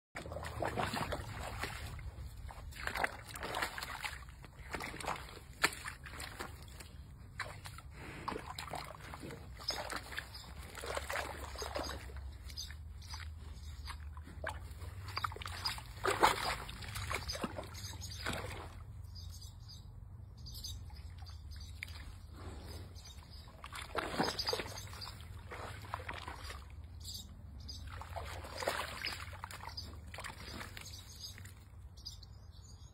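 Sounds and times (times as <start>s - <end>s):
animal splashing in mud: 0.2s - 19.3s, 20.7s - 32.0s.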